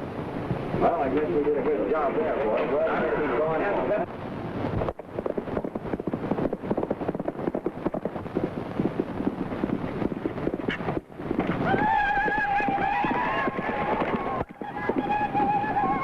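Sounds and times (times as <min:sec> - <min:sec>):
horse hooves galloping: 0:00.4 - 0:04.0, 0:04.7 - 0:16.0.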